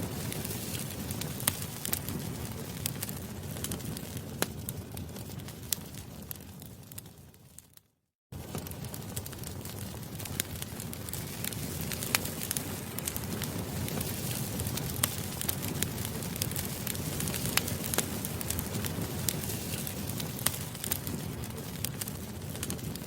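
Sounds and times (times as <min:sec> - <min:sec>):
campfire flames rushing: 0:00.0 - 0:07.7, 0:08.3 - 0:23.0
wood crackling and popping: 0:00.0 - 0:07.8, 0:08.4 - 0:23.0.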